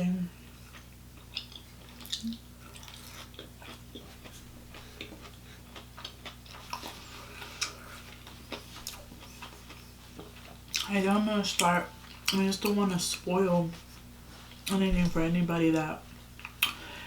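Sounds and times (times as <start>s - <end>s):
faint electrical hum: 0.0s - 17.0s
mouth chewing food: 0.4s - 14.8s.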